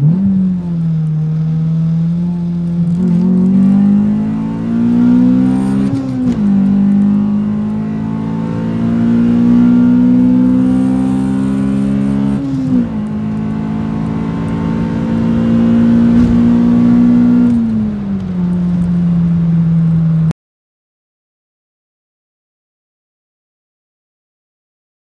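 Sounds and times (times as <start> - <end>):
car engine cruising: 0.0 - 20.3.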